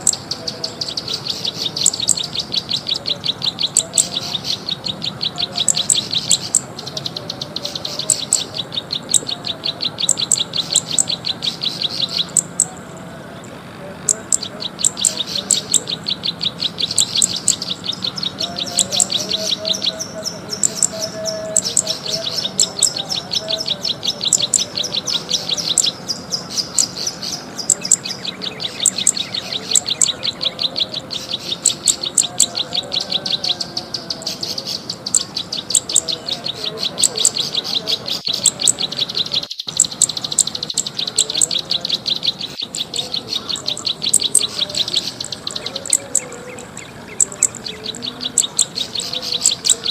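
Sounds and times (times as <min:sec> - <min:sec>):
songbird high chirps and clicks: 0:00.0 - 0:12.8, 0:13.4 - 0:49.9.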